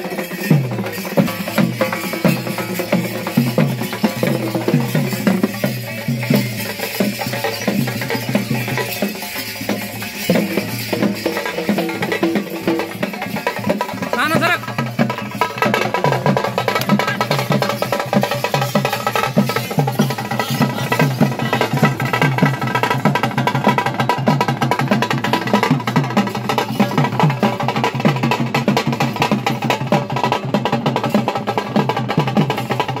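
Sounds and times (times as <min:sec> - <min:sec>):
fast frame drumming: 0:00.1 - 0:33.0.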